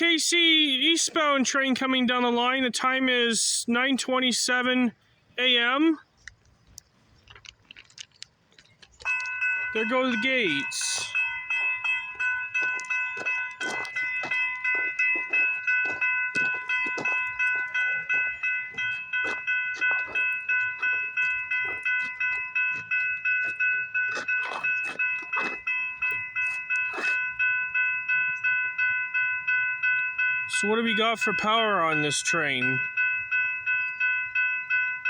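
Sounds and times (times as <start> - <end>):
level crossing warning bell: 0.0 - 6.0, 9.0 - 35.0.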